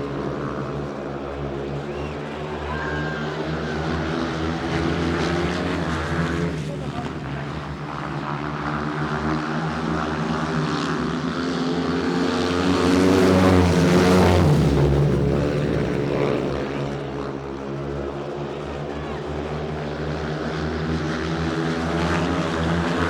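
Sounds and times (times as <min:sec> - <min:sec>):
engine passing by: 0:00.0 - 0:23.0.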